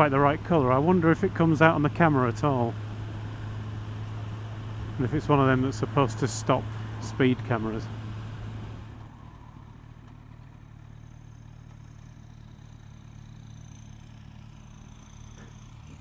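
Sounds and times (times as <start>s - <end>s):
motorcycle engine running: 0.0s - 16.0s
road noise: 0.0s - 16.0s.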